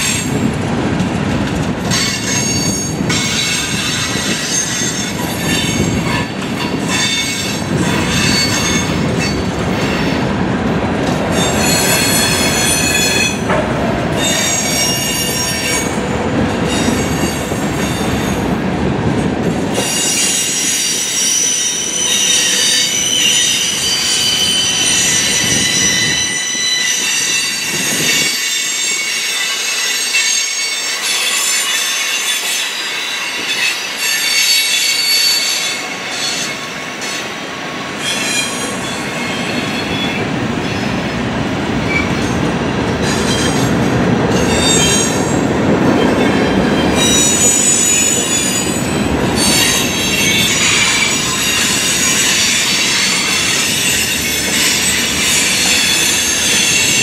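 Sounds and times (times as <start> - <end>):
train wheels squealing on rails: 0.0 - 0.5, 1.8 - 10.3, 11.0 - 18.5, 19.7 - 57.0
train wheels rumbling and clacking: 0.0 - 57.0.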